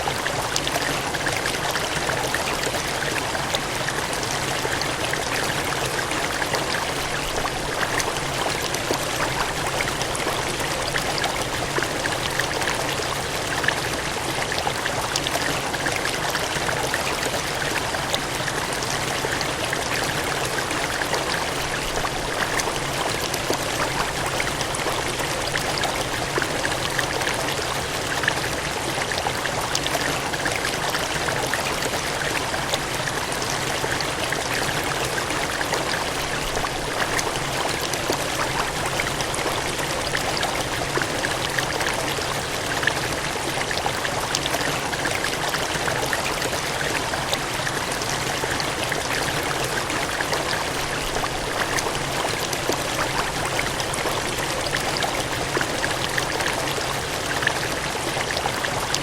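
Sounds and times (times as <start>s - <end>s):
water gushing and cascading: 0.0s - 59.0s
water splashes: 0.0s - 59.0s.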